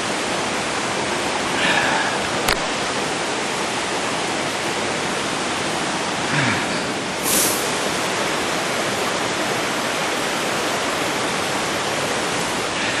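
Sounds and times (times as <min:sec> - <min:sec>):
waterfall pouring: 0:00.0 - 0:13.0.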